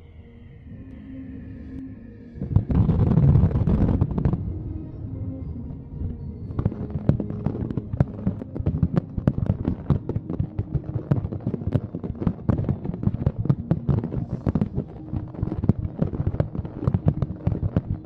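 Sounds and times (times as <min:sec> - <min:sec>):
fireworks crackling and popping: 0:02.4 - 0:04.6, 0:05.6 - 0:18.0.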